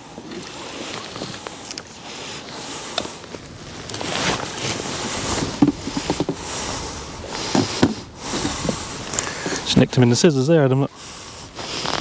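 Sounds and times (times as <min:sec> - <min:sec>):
water around a boat: 0:00.0 - 0:12.0
wind: 0:00.0 - 0:12.0.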